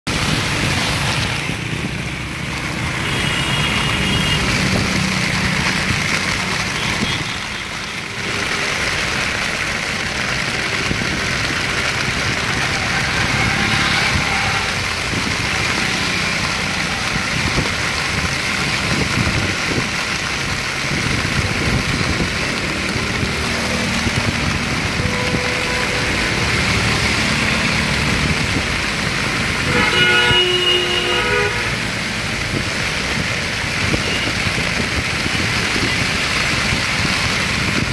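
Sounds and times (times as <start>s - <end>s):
heavy rain on street: 0.0s - 37.9s
passing traffic engines: 0.0s - 37.9s.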